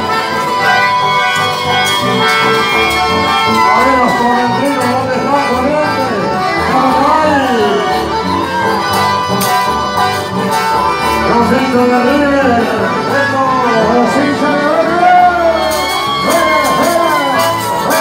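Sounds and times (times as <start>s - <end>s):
accordion: 0.0s - 18.0s
electric bass: 0.0s - 18.0s
live folk band: 0.0s - 18.0s.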